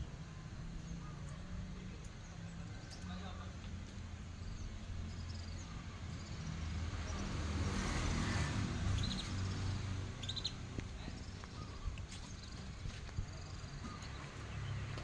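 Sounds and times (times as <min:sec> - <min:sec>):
songbirds chirping: 0:00.0 - 0:15.0
passing vehicle rumble: 0:00.8 - 0:15.0.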